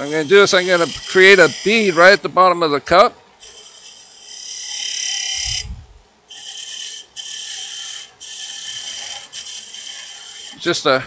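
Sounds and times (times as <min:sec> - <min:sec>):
lathe gouge cutting wood: 0:00.0 - 0:02.2, 0:03.4 - 0:05.6, 0:06.3 - 0:10.9.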